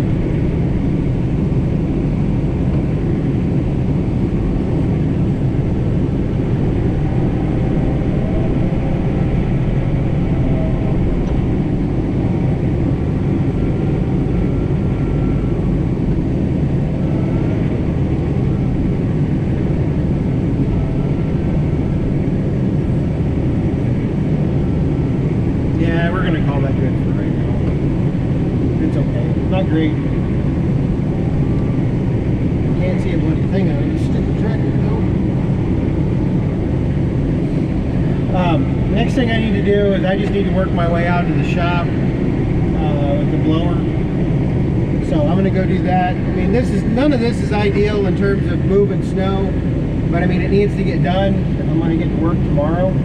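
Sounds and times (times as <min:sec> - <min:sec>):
tractor diesel engine running: 0:00.0 - 0:47.1.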